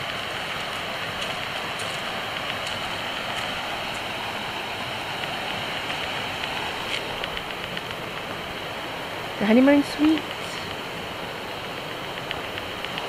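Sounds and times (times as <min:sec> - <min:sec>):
creek flowing water: 0:00.0 - 0:13.0.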